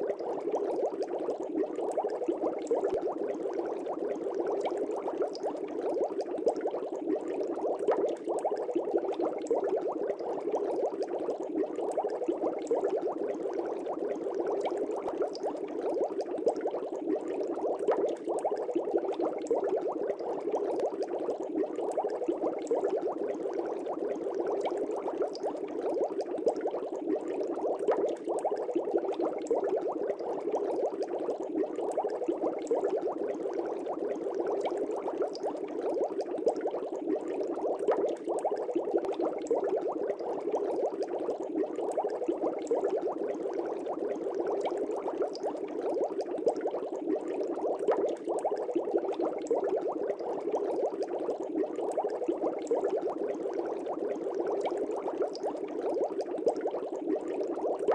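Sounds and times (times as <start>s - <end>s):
air bubbles bubbling in water: 0.0s - 57.9s.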